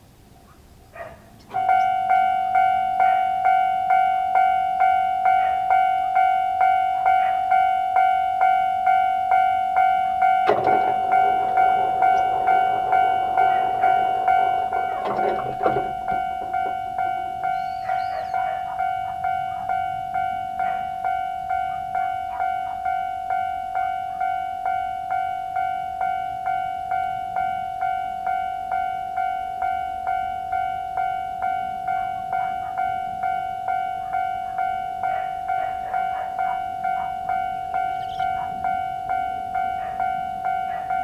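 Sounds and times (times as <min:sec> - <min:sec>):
level crossing bell ringing: 0:01.5 - 0:41.0.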